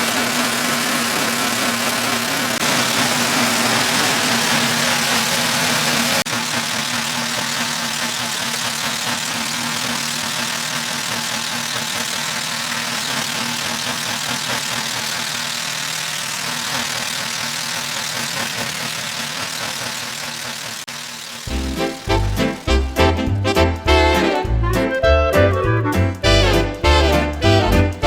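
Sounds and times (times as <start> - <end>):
snowblower engine droning: 0.0 - 24.7, 25.4 - 28.0.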